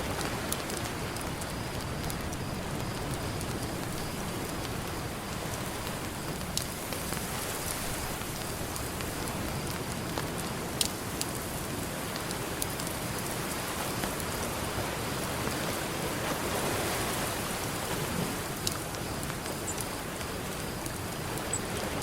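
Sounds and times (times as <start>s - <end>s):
campfire crackling: 0.0s - 22.0s
ocean waves: 0.0s - 22.0s.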